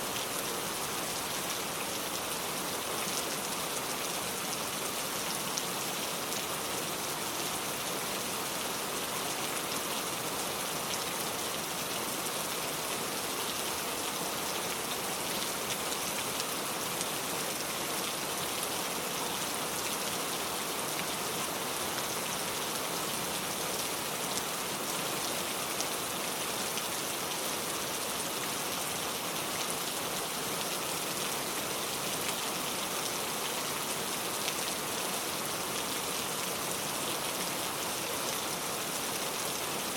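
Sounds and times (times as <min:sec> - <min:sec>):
rain pattering on a surface: 0:00.1 - 0:39.9.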